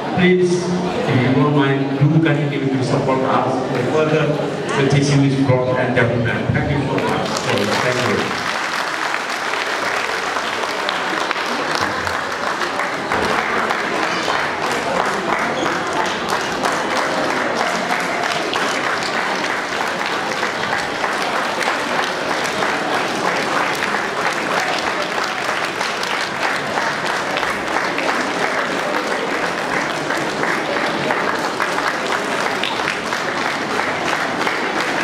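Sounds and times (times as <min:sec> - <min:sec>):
voices in crowd: 0:00.0 - 0:35.0
audience applauding: 0:06.7 - 0:35.0.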